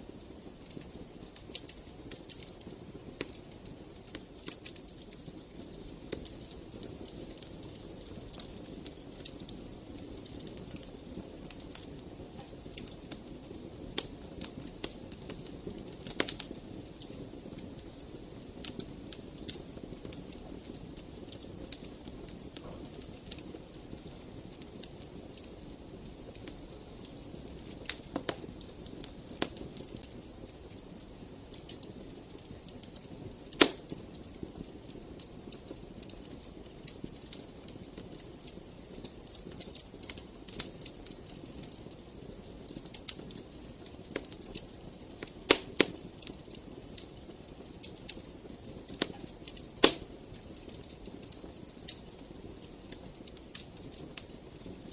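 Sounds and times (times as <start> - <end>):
wood fire crackling: 0.0 - 54.9
sharp pops from fire: 0.1 - 54.9.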